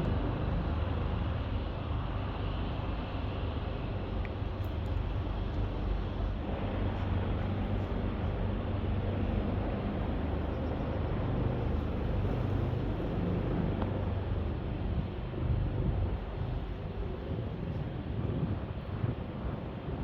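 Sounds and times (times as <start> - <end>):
ship engine rumble: 0.0 - 20.0.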